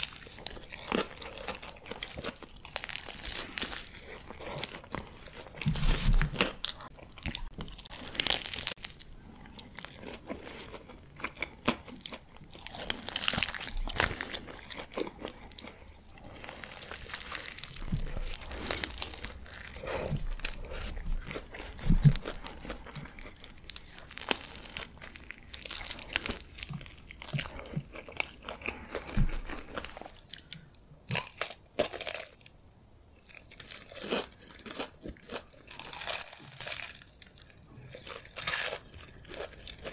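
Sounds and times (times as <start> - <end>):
wet chewing: 0.0 - 32.4
crunchy bites: 0.0 - 32.5, 33.2 - 39.9.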